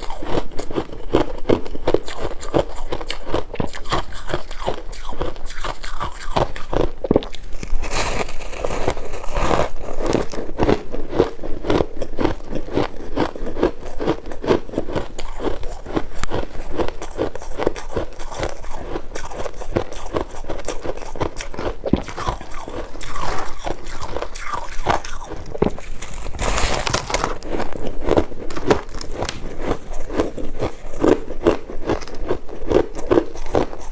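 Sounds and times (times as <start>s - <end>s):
crunching of frost chunks: 0.0s - 33.9s.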